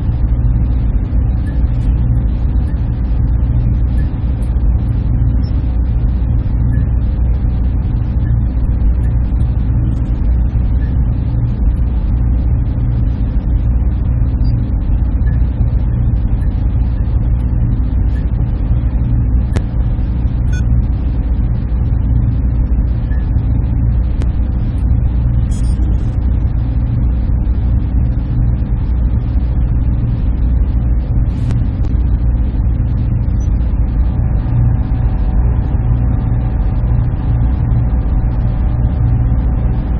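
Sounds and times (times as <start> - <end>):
fan noise rushing: 0.0 - 39.9
server machinery hum: 0.0 - 39.9.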